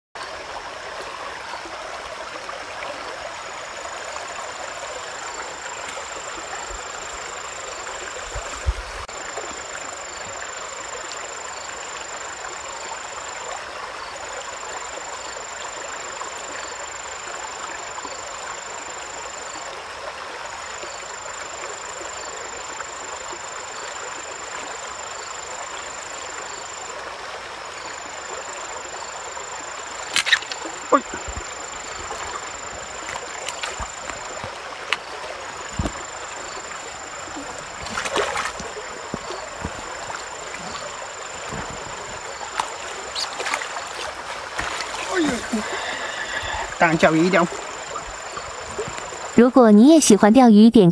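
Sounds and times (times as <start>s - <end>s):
stream water flowing: 0.2s - 50.2s.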